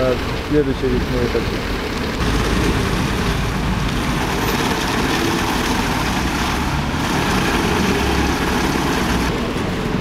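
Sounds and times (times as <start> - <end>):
road roller engine droning: 0.0 - 10.0.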